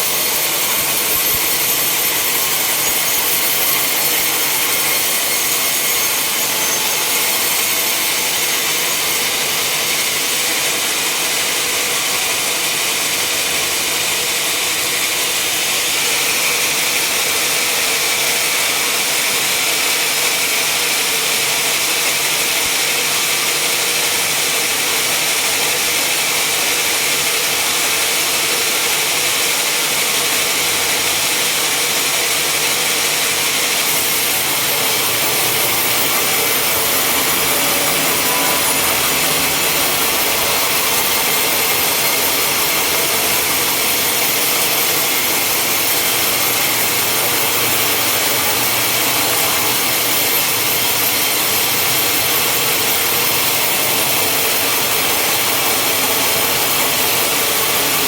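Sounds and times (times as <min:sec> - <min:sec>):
sawmill saw cutting log: 0:00.0 - 0:58.0.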